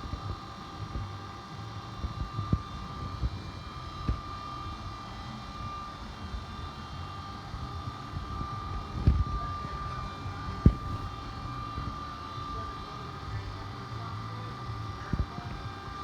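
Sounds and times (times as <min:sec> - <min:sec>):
machine high whine: 0:00.0 - 0:16.0.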